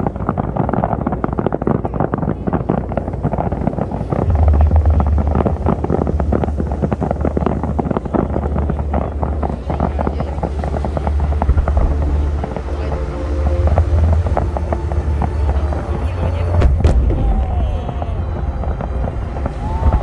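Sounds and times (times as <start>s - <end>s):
low rumble: 0.0s - 20.0s
wind buffeting microphone: 0.0s - 20.0s.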